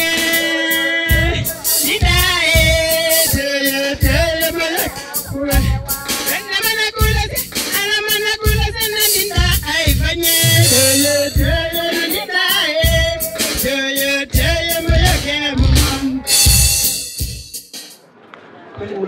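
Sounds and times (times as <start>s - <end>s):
deep bass beat: 0.0s - 17.5s.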